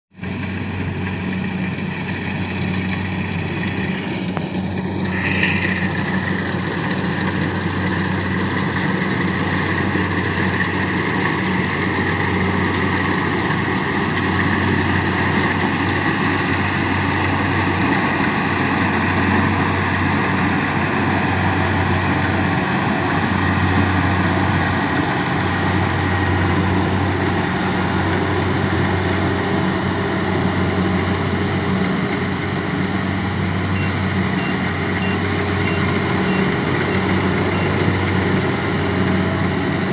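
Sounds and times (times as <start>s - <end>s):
harvesting machine engine droning: 0.2s - 39.9s.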